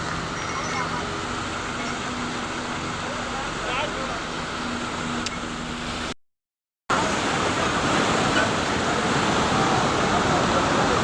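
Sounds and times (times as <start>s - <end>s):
waterfall roaring: 0.0s - 6.1s, 6.9s - 11.0s.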